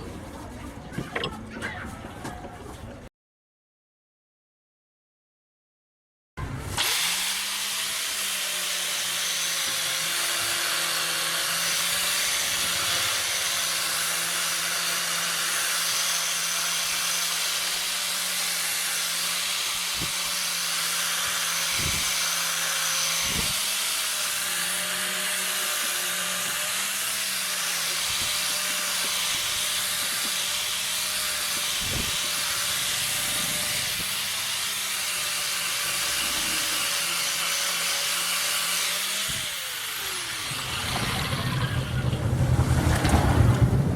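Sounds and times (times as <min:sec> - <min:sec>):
electric power tool running: 0:06.8 - 0:42.0.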